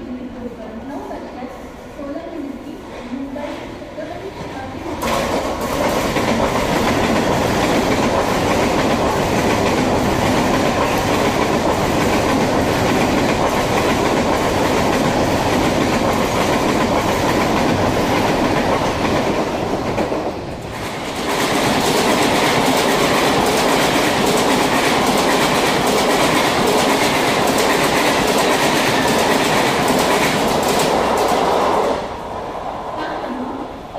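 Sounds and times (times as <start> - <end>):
trains rushing past: 0.0 - 33.9
wheels rushing on rails: 5.0 - 33.9.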